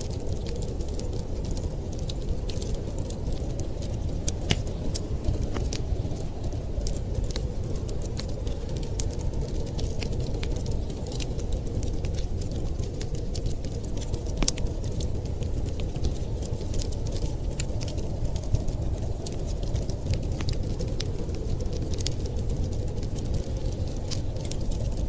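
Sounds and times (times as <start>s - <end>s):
blizzard wind rushing: 0.0s - 25.0s
wood fire crackling: 0.0s - 25.0s.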